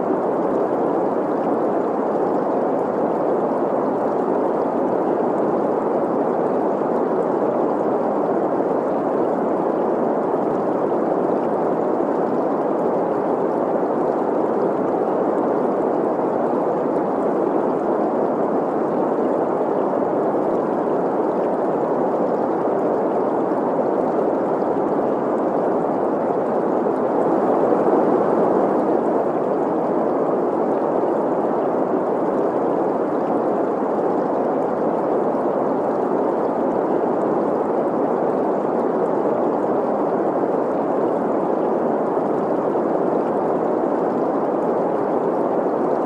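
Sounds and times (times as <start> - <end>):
steady green noise hiss: 0.0 - 46.0
stream flowing and gurgling: 0.0 - 46.0.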